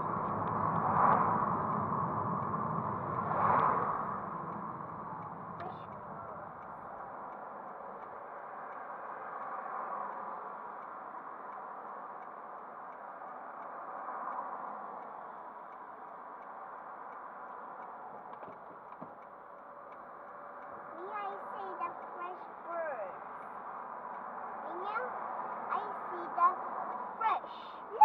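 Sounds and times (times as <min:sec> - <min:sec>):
cars passing: 0:00.0 - 0:28.0
traffic noise: 0:00.0 - 0:28.0.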